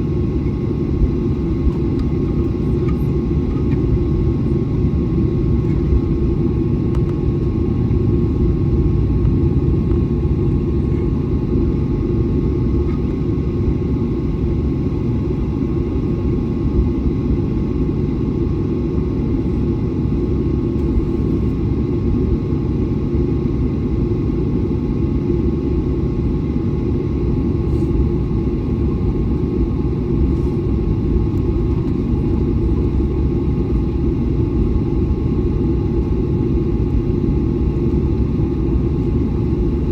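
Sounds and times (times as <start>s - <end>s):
jet engines at taxi thrust: 0.0s - 39.9s.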